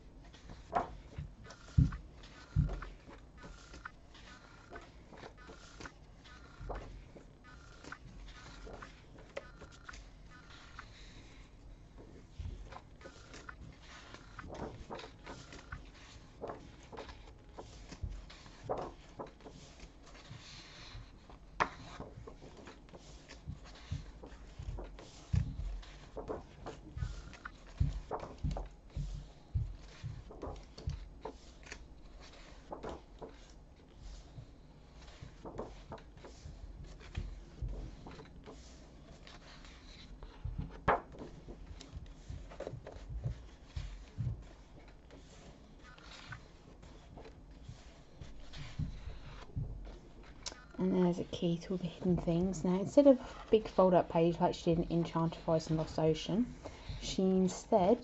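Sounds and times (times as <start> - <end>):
paper pages rustling: 0.0 - 58.0
soft low thumps of book: 0.0 - 58.0
page swish: 0.3 - 11.6, 12.2 - 50.8.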